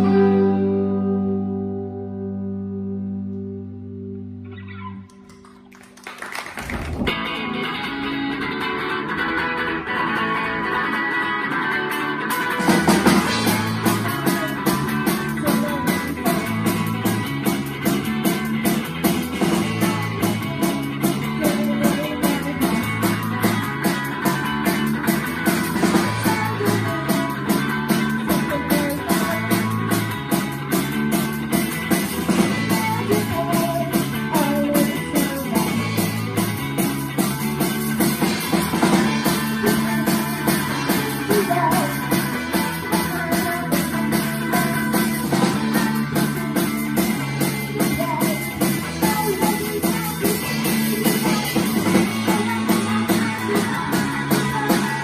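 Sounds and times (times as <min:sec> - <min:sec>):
guitar playing: 0:00.0 - 0:06.1, 0:06.9 - 0:55.0
live rock band: 0:00.0 - 0:55.0.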